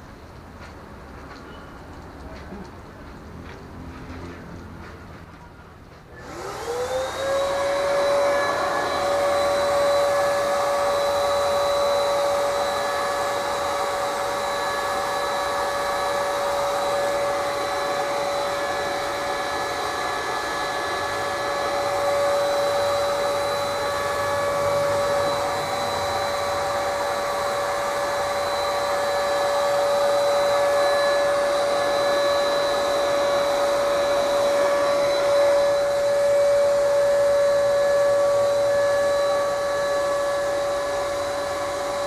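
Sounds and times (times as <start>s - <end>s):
paint sprayer turbine whine: 6.1s - 42.0s.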